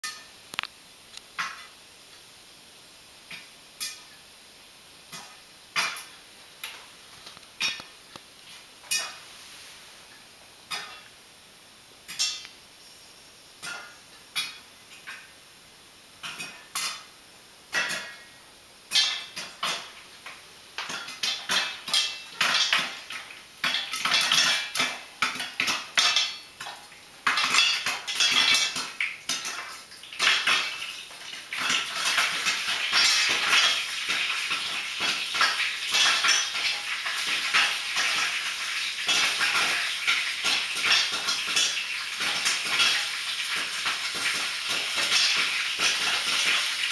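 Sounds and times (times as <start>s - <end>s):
popcorn popping in metal pot: 0.0s - 1.8s, 3.3s - 4.2s, 5.0s - 9.2s, 10.6s - 11.1s, 12.0s - 12.6s, 13.6s - 15.4s, 16.2s - 46.9s.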